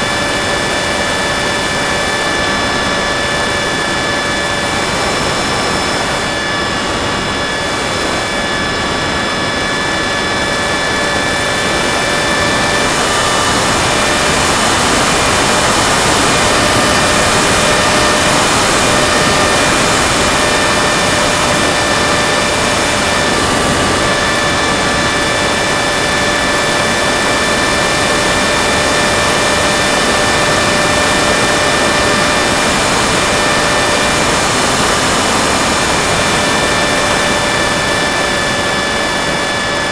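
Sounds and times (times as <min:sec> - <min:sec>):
model aircraft motor whine: 0:00.0 - 0:39.9
wind noise rushing: 0:00.0 - 0:39.9.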